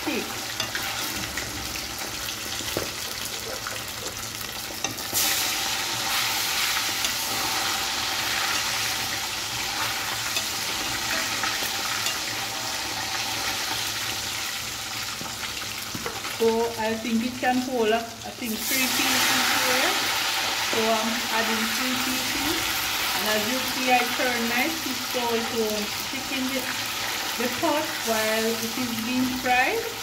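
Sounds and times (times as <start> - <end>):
fish frying in hot oil: 0.0 - 16.8, 18.2 - 30.0.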